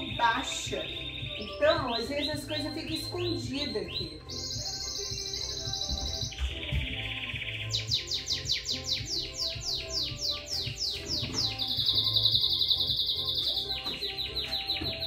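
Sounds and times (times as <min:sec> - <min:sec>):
quiet background music: 0:00.0 - 0:15.0
songbird trilling and chirping: 0:00.0 - 0:15.0.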